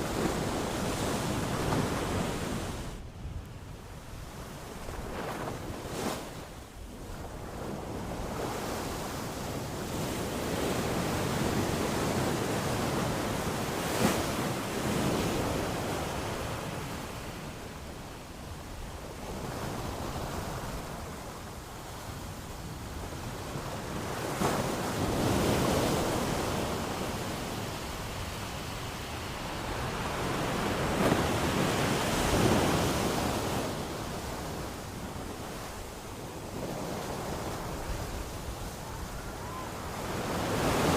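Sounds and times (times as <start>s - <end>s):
ocean surf washing onto shore: 3.8s - 40.9s.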